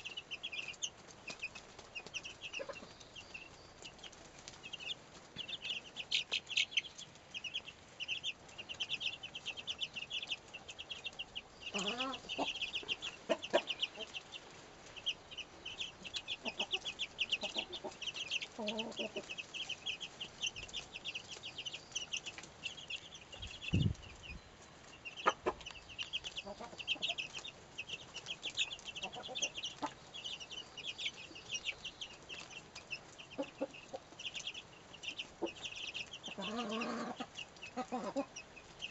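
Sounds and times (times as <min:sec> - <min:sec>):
chicks peeping: 0:00.0 - 0:38.9
hen clucking: 0:00.0 - 0:38.9.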